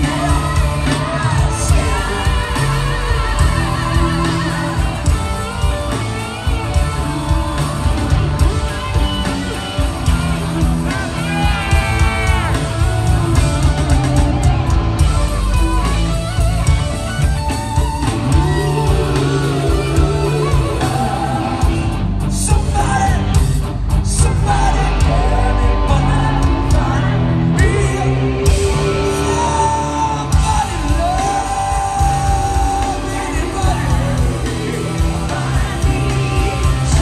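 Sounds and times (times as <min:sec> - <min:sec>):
electric guitar lead line bending: 0:00.0 - 0:37.0
live rock band playing: 0:00.0 - 0:37.0.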